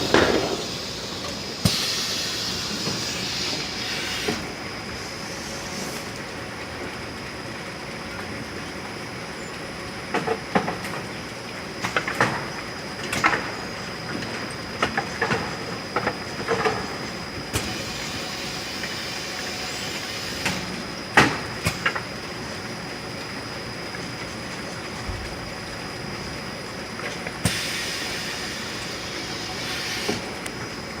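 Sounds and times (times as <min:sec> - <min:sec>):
conveyor line hum with whine: 0:00.0 - 0:31.0.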